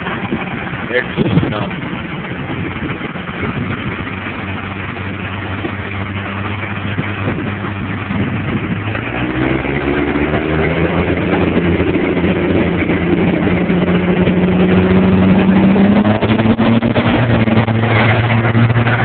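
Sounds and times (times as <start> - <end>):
diesel truck engines revving: 0.0 - 19.0.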